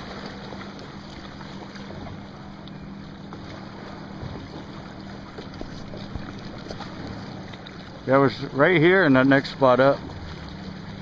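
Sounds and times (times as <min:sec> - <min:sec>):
electric trolling motor humming: 0:00.0 - 0:11.0
water noise: 0:00.0 - 0:11.0
wind: 0:00.0 - 0:11.0.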